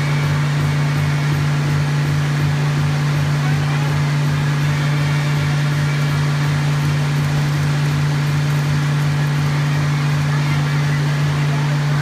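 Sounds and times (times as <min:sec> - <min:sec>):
motor humming with low throb: 0:00.0 - 0:12.0.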